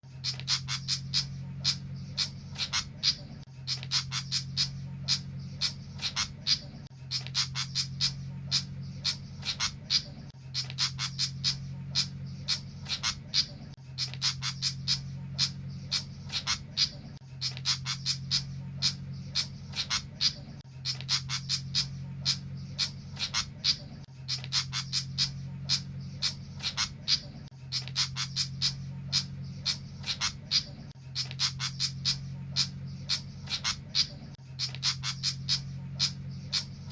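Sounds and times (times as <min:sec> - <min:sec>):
chattering bird calls: 0:00.0 - 0:36.9
low hum: 0:00.1 - 0:36.9.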